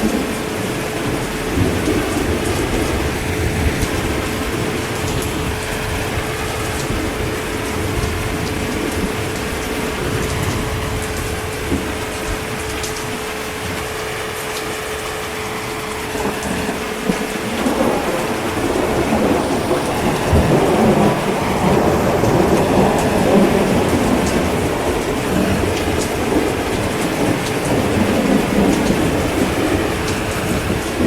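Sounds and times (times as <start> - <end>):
rain falling: 0.0 - 31.0
thunder rumbling: 0.0 - 31.0.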